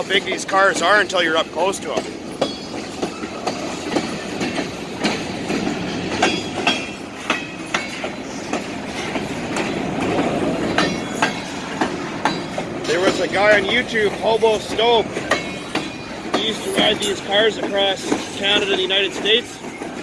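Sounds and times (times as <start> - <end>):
train wheel clacks: 0.0 - 20.0
train wheels rumbling on rail: 0.0 - 20.0.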